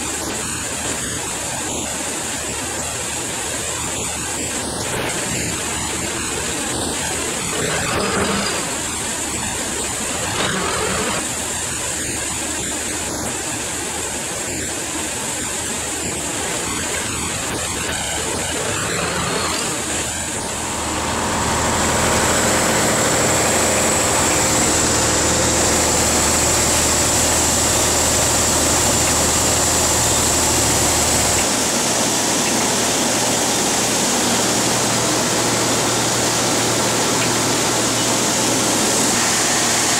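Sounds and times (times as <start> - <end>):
engine running with whine: 0.0 - 39.9
steady rushing noise: 0.0 - 39.9.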